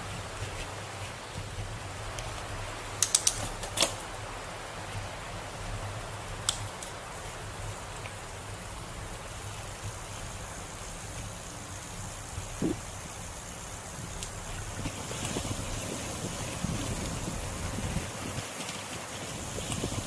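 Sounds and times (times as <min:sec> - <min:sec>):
bicycle tyres rolling on pavement: 0:00.0 - 0:20.0.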